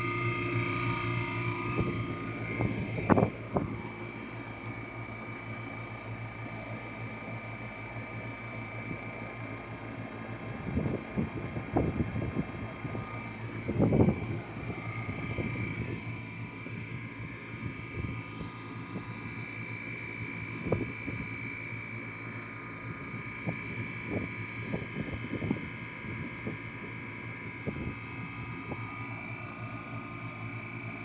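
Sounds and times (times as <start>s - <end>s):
compressor humming and whining: 0.0s - 31.0s.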